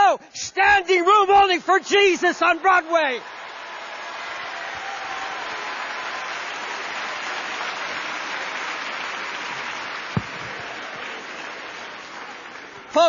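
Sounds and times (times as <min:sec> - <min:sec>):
congregation applauding: 0:01.2 - 0:13.0.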